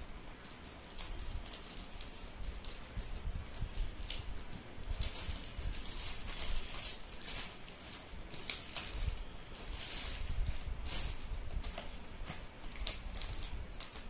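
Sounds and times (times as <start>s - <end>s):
plastic mailer crinkling: 0.0s - 14.0s
scissors cutting plastic: 0.0s - 14.0s.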